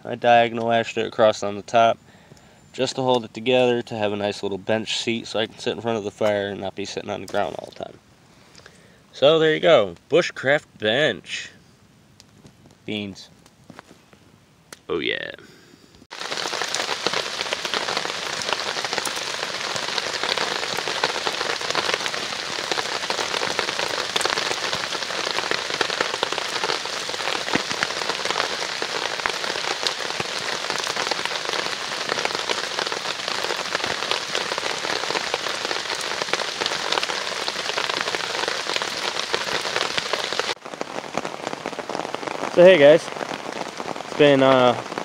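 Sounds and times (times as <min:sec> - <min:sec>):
rain pattering: 0:00.0 - 0:11.5, 0:16.1 - 0:45.0.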